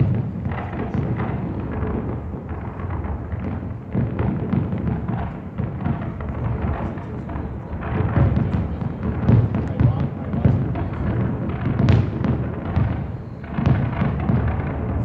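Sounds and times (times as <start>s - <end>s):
continuous rumble: 0.0s - 15.0s
fireworks booming bursts: 0.0s - 15.0s.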